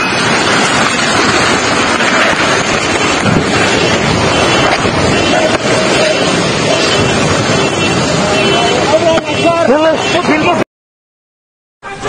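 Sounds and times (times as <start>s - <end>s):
heavy rain and hail: 0.0s - 10.6s
storm wind gusting: 0.0s - 10.6s
wind buffeting microphone: 0.0s - 10.6s.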